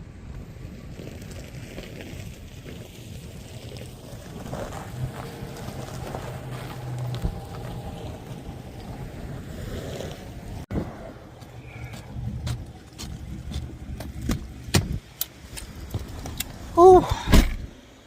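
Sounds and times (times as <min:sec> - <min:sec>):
wind buffeting microphone: 0:00.0 - 0:17.8
low engine rumble: 0:00.0 - 0:18.0.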